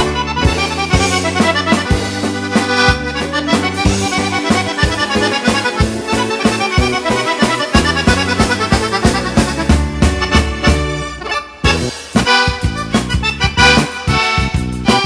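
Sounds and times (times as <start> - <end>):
button accordion playing a waltz: 0.0 - 15.0.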